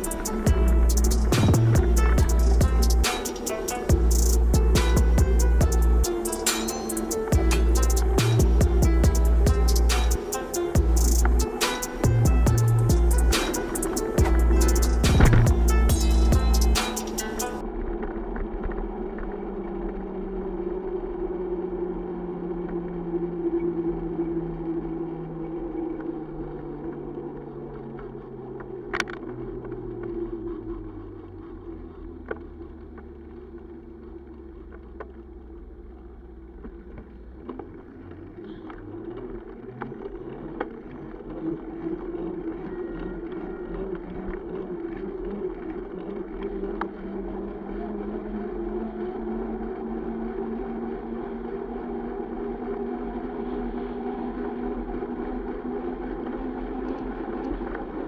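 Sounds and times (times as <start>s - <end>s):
car engines in slow traffic: 0.0s - 58.0s
steady hum: 0.0s - 58.0s.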